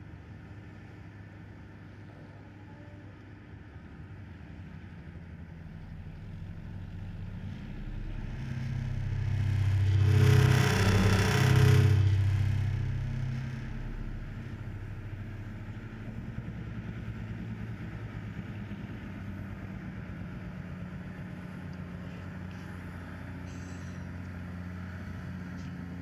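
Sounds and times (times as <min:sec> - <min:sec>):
low droning hum: 0:01.5 - 0:26.0.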